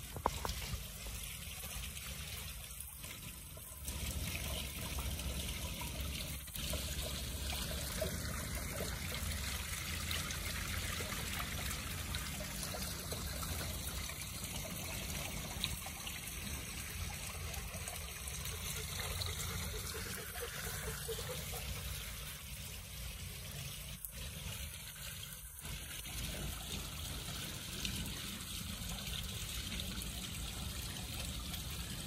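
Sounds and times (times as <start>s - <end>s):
fountain water trickling: 0.0s - 32.0s.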